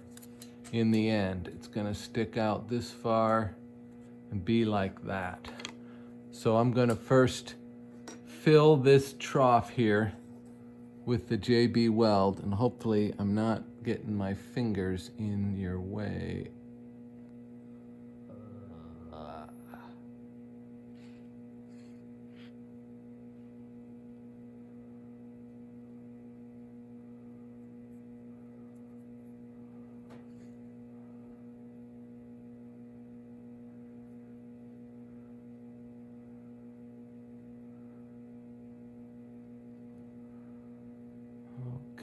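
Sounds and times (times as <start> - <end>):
electrical mains hum: 0.0 - 42.0.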